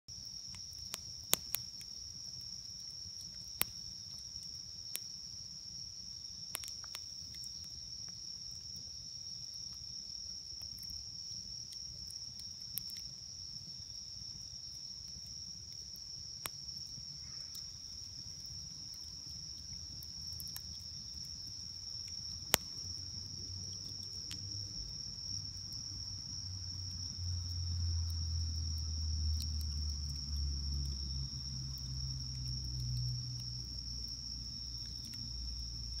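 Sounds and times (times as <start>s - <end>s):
campfire popping and crackling: 0.1s - 36.0s
crickets trilling: 0.1s - 36.0s.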